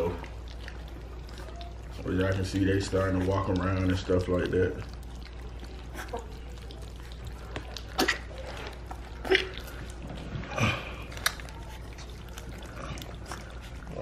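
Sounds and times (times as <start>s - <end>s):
puppies lapping and slurping: 0.0s - 14.0s.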